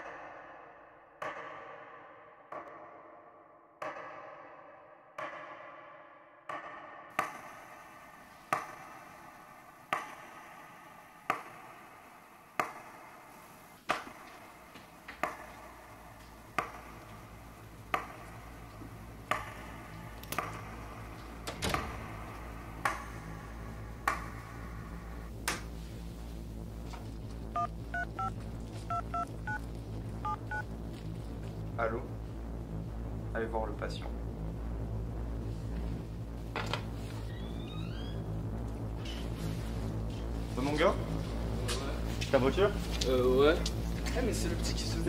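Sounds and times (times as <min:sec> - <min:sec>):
low hum: 0:07.2 - 0:45.0.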